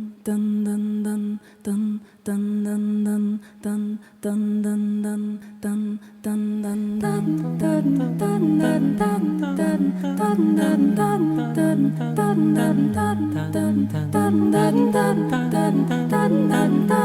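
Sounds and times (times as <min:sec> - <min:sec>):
person singing rhythmic note: 0:00.0 - 0:17.0
voices singing harmony: 0:00.0 - 0:17.0.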